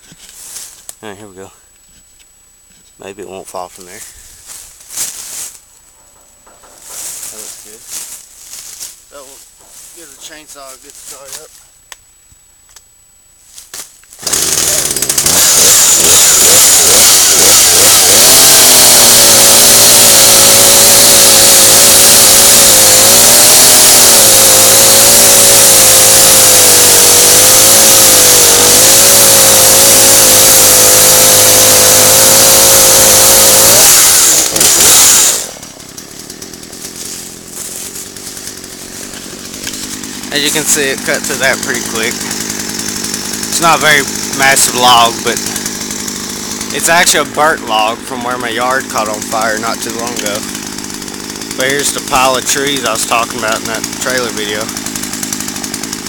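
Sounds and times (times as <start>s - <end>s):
chainsaw cutting log: 3.8s - 11.6s, 13.8s - 56.0s.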